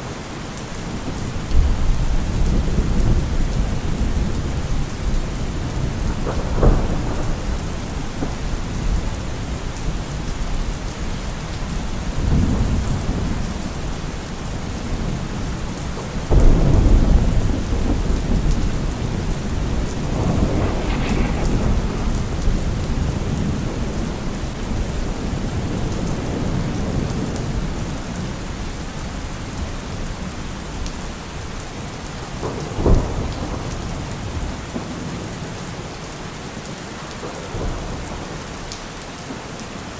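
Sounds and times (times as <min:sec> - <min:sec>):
steady rain: 0:00.0 - 0:39.9
thunder rumbling and cracking: 0:00.8 - 0:36.1.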